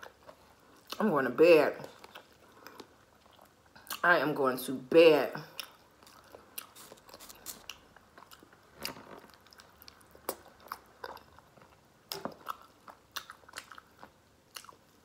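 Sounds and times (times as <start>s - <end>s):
person chewing with mouth open: 0.0s - 1.0s, 1.9s - 4.0s, 5.5s - 15.0s.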